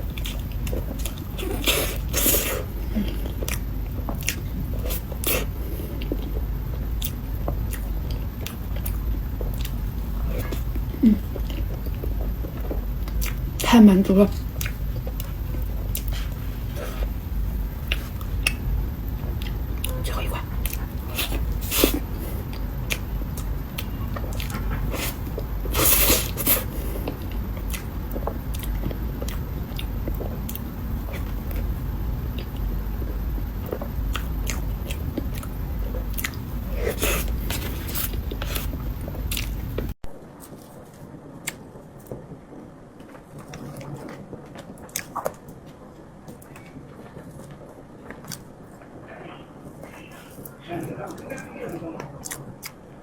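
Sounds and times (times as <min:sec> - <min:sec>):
close chewing and mouth sounds: 0:00.0 - 0:42.2, 0:43.0 - 0:48.8, 0:49.6 - 0:53.0.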